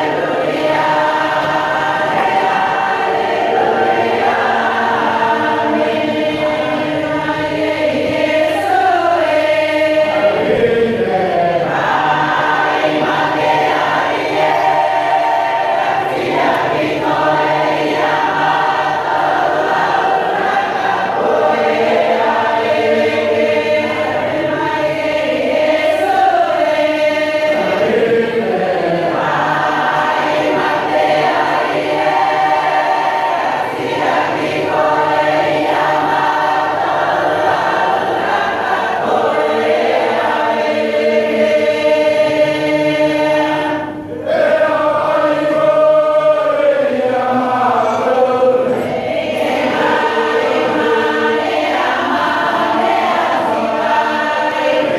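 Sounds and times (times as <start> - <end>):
congregation singing a hymn: 0.0 - 54.9.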